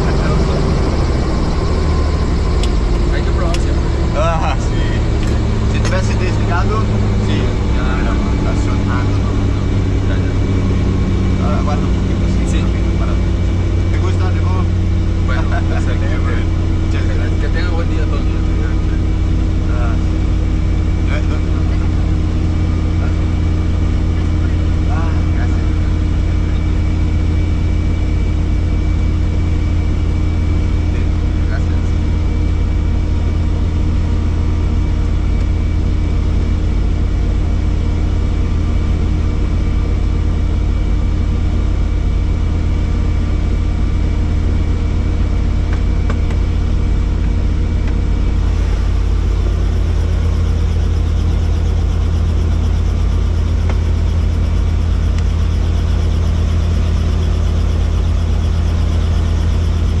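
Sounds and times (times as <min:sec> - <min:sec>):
helicopter engine and rotor: 0:00.0 - 1:00.0.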